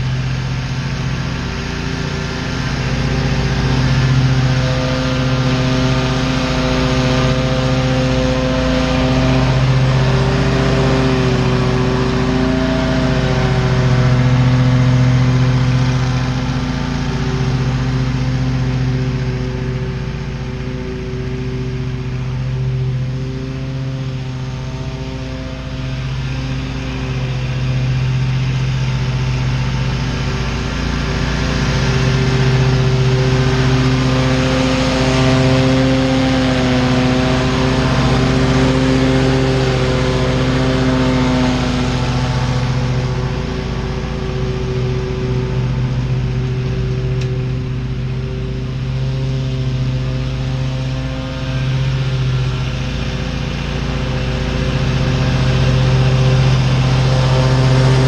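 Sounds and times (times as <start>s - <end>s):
lawn mower engine drone: 0.0s - 58.0s.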